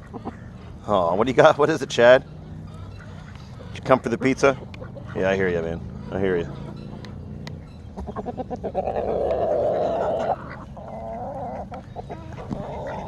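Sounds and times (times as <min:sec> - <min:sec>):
poultry calling: 0:00.0 - 0:13.0.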